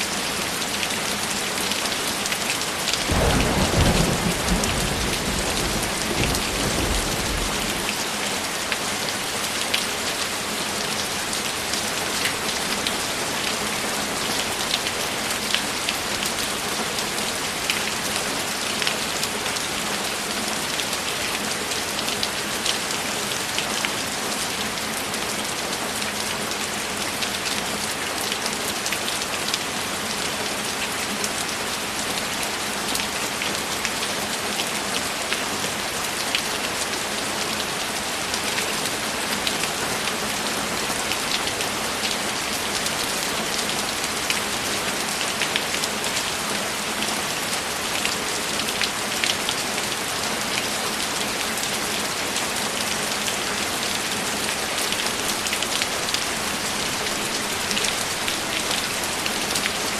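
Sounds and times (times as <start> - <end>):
steady rainfall: 0.0 - 59.9
raindrops ticking on a surface: 0.1 - 59.9.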